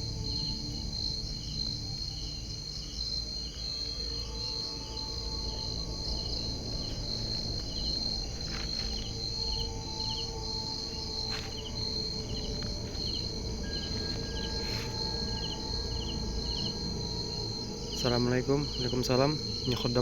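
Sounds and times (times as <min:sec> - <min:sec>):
high-pitched insect trill: 0:00.0 - 0:20.0
short insect chirps: 0:00.0 - 0:20.0.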